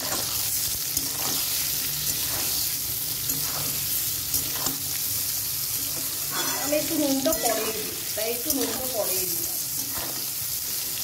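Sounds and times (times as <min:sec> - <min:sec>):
metal spatula scraping pan: 0:00.0 - 0:05.0, 0:05.7 - 0:11.0
vegetables sizzling in oil: 0:00.0 - 0:11.0.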